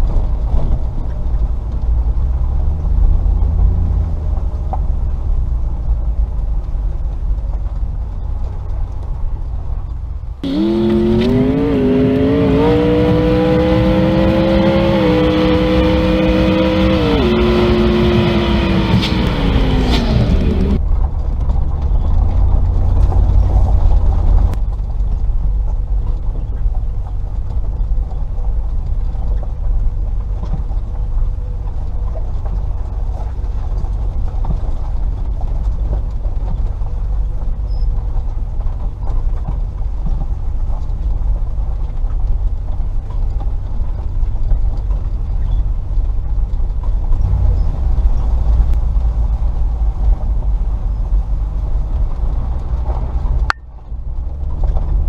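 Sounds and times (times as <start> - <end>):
car engine running at low revs: 0.0 - 55.0.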